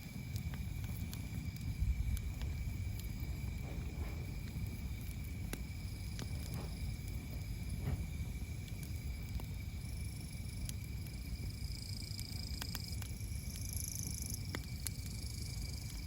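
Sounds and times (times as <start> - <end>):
campfire crackling and popping: 0.0 - 16.0
insects droning: 0.0 - 16.0.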